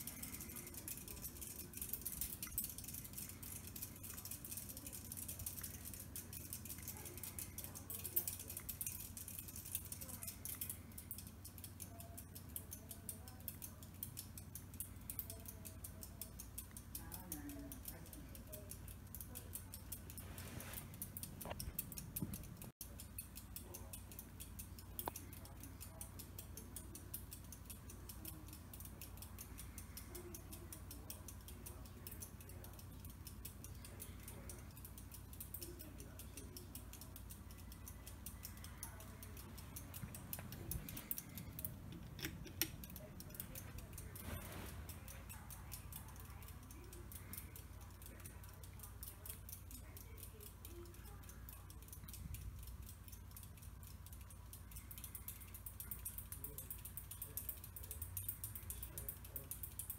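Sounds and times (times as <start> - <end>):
ceiling fan motor hum: 0.0 - 59.9
fast light ticking: 0.0 - 59.9.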